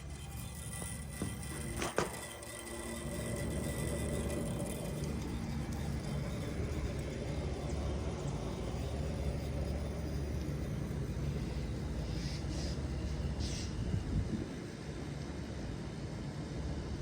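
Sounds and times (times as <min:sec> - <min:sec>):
heat pump humming: 0:00.0 - 0:17.0.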